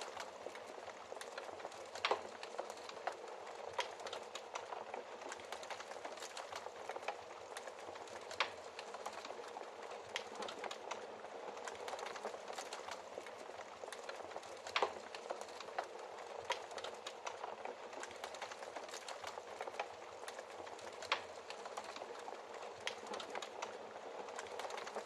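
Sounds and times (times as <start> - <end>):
wood fire crackling: 0.0 - 25.0
fire pops: 0.1 - 11.0, 11.6 - 23.7.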